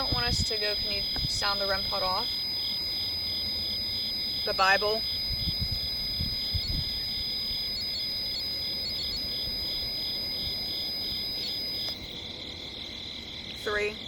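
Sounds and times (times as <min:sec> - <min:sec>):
high-pitched alarm tone: 0:00.0 - 0:12.2
crickets chirping: 0:00.0 - 0:14.0
frogs chirping: 0:00.0 - 0:14.0.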